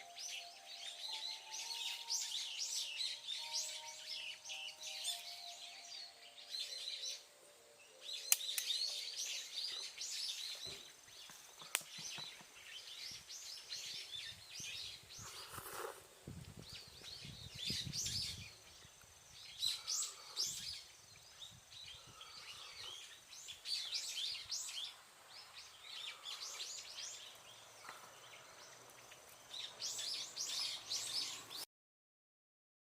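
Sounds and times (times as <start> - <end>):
small birds chirping: 0.0 - 31.7.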